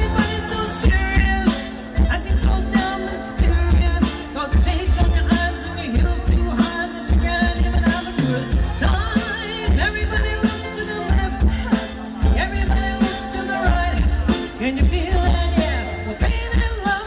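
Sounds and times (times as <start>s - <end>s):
pulsing bass: 0.0s - 16.8s
amplified keyboard: 0.0s - 17.0s
woman singing into microphone: 0.0s - 17.0s.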